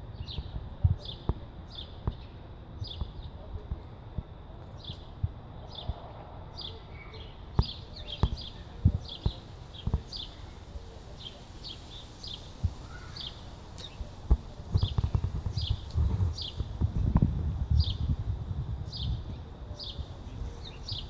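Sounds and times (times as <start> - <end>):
small birds chirping: 0.0 - 3.8, 4.6 - 21.0.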